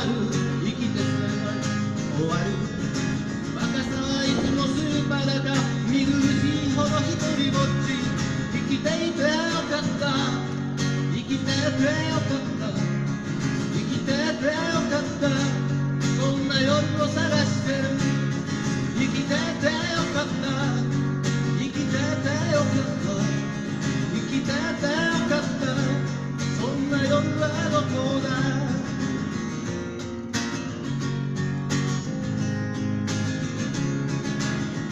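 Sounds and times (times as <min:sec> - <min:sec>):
acoustic guitar strumming: 0:00.0 - 0:34.9.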